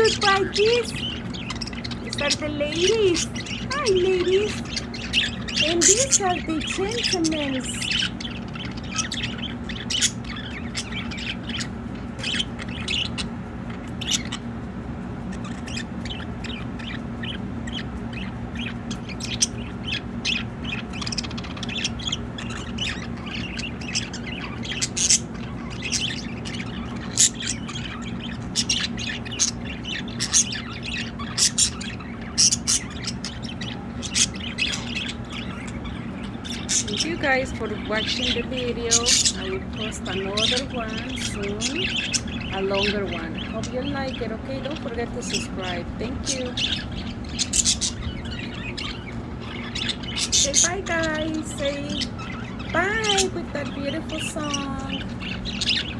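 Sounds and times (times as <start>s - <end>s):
budgerigars chirping and squawking: 0.0s - 55.9s
steady low hum: 0.0s - 55.9s.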